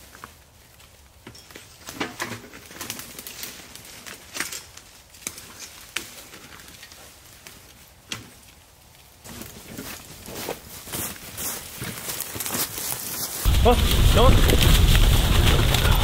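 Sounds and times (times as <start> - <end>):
dry leaves crunching and rustling: 0.0 - 16.0.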